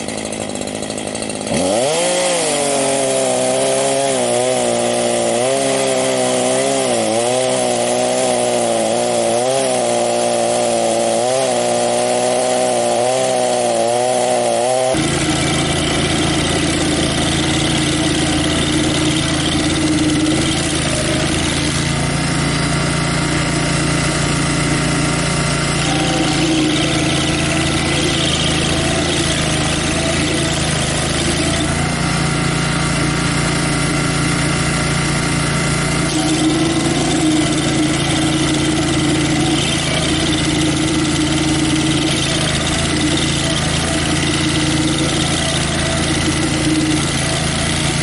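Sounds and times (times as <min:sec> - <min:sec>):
cutter wheel chewing wood: 0:00.0 - 0:48.0
stump grinder engine running: 0:00.0 - 0:48.0.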